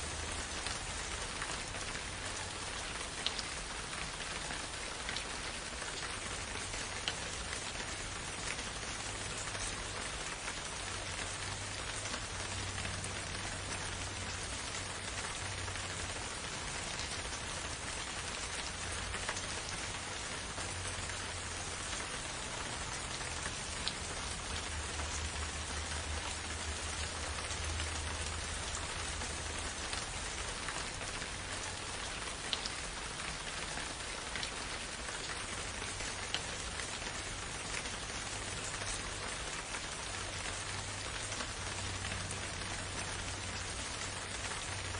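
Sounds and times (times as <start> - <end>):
rain patter on forest: 0.0 - 44.9.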